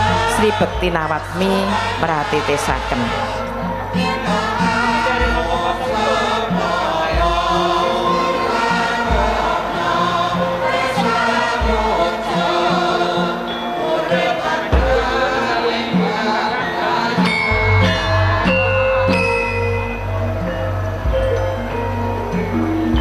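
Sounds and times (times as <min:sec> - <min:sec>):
chorus singing: 0:00.0 - 0:23.0
gamelan ensemble playing: 0:00.0 - 0:23.0.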